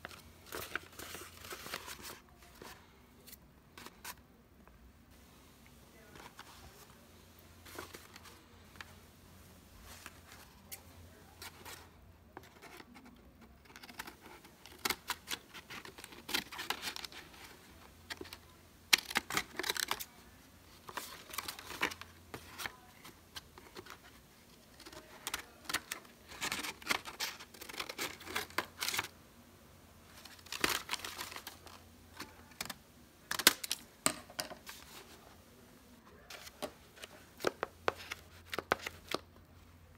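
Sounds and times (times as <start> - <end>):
paper rustling: 0.0 - 4.2, 7.6 - 9.0, 9.8 - 29.1, 30.1 - 35.4, 36.2 - 39.3.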